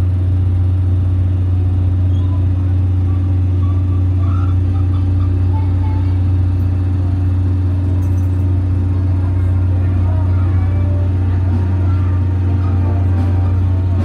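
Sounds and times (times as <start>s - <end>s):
diesel engine drone: 0.0s - 14.0s.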